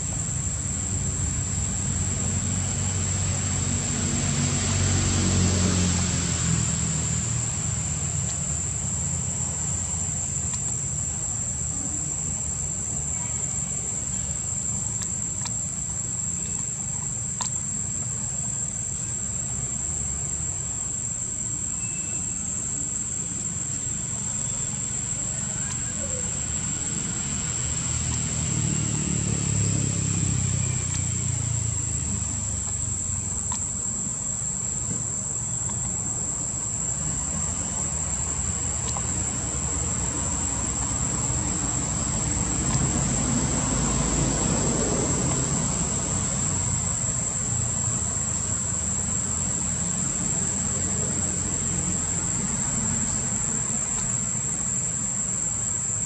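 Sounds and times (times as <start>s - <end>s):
insect drone: 0.0s - 56.0s.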